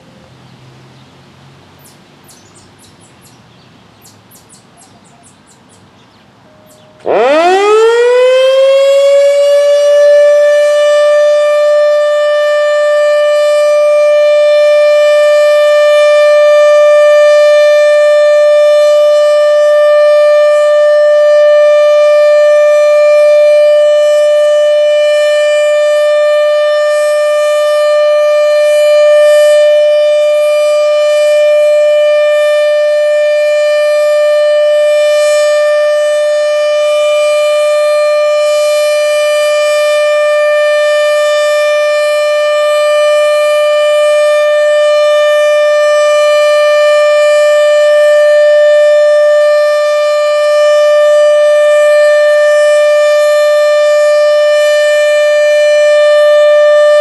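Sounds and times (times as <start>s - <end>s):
siren steady tone: 6.4s - 57.0s.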